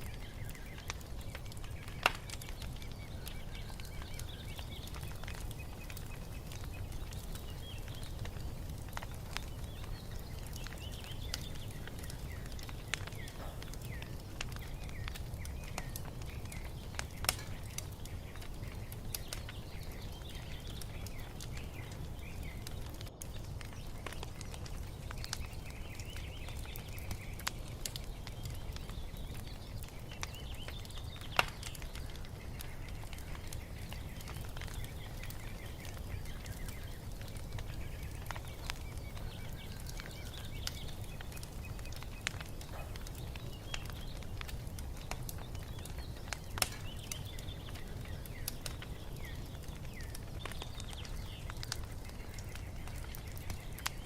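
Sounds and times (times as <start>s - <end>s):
small birds chirping faintly: 0.0s - 54.0s
wood fire crackling: 0.0s - 54.0s.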